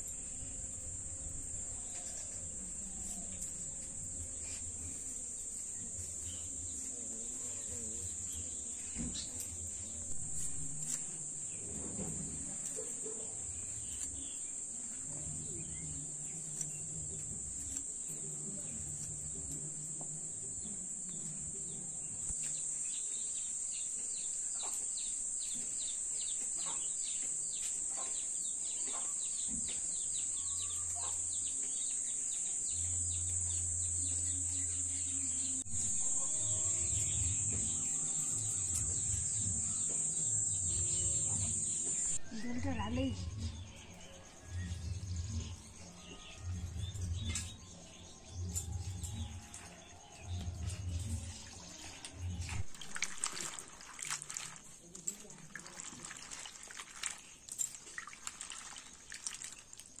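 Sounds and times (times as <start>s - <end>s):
insects droning: 0.0s - 60.0s.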